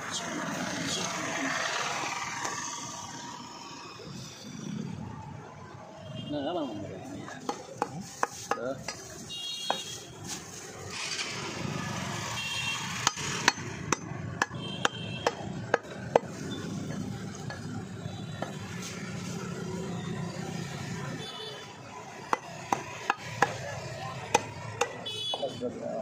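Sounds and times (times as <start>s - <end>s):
background noise: 0.0s - 26.0s.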